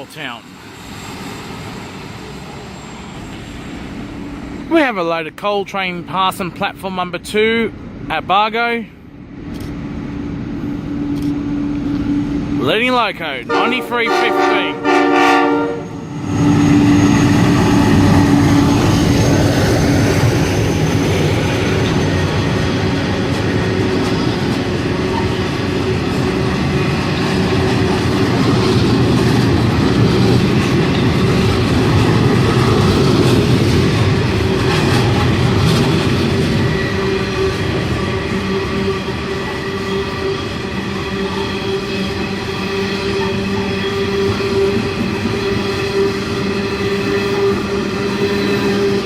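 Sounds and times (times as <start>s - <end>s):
faint tones from train wheels: 0.0s - 4.7s, 13.5s - 49.0s
train wagons rumbling over rails: 0.0s - 49.0s.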